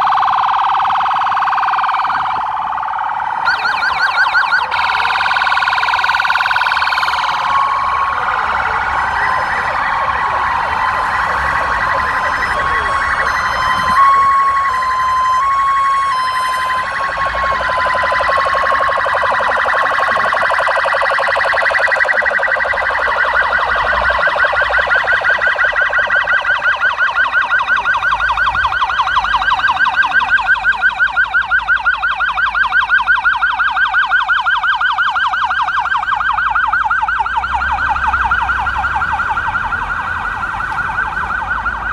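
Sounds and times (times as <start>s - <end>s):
fast siren yelp: 0.0s - 41.9s
police sirens wailing: 0.0s - 41.9s.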